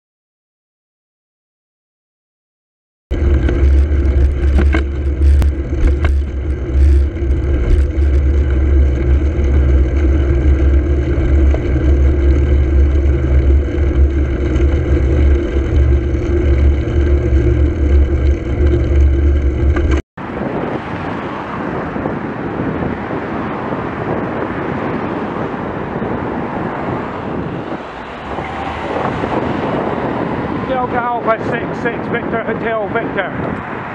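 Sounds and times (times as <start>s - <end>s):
loud droning hum: 3.1s - 33.2s
road noise: 3.1s - 33.9s
wind noise on microphone: 3.1s - 33.9s.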